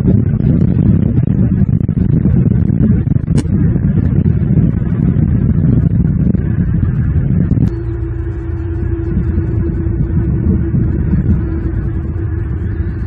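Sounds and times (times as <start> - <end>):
road traffic rumble: 0.0 - 13.0
steady low hum: 0.0 - 13.0
wind noise on microphone: 0.0 - 13.0.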